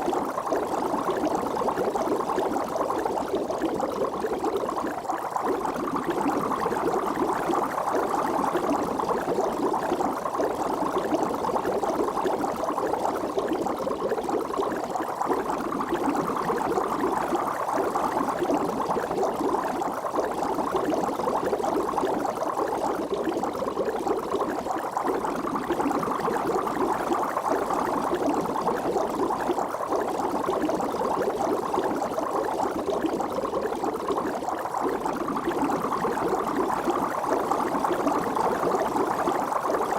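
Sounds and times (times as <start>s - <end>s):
water bubbling: 0.0s - 39.9s.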